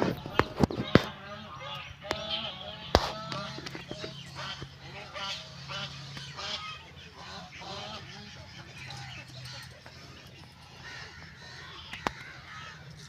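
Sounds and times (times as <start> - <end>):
fowl honking: 0.0 - 9.7, 10.7 - 12.8
steady low hum: 0.0 - 13.0.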